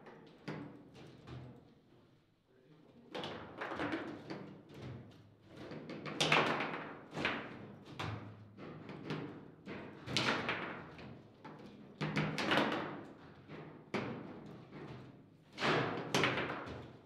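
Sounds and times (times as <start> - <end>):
table football knocks and clacks: 0.2 - 1.5, 3.2 - 17.0.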